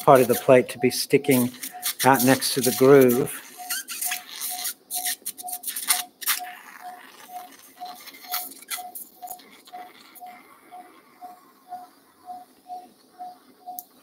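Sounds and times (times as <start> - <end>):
patient monitor beeping: 0.0 - 14.0.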